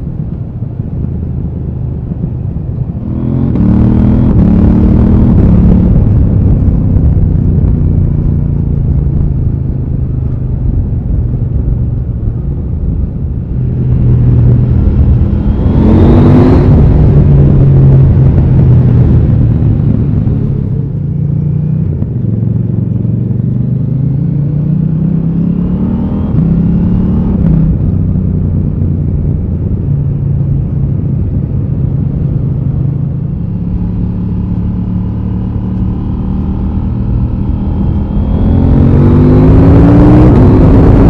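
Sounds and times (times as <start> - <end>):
motorcycle engine revving: 2.9 - 10.6, 13.4 - 41.0.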